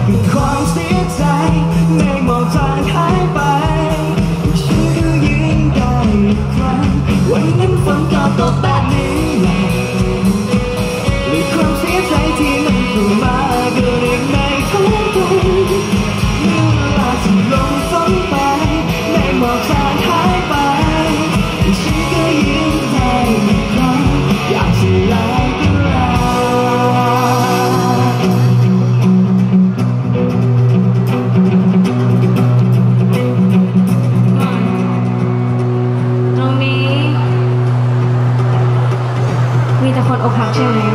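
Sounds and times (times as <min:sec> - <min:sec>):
steady drum beat: 0:00.0 - 0:36.0
acoustic and electric guitars: 0:00.0 - 0:40.9.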